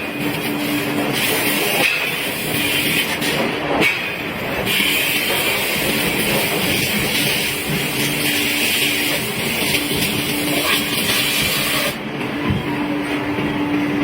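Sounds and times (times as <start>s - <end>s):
industrial machinery running: 0.0s - 14.0s.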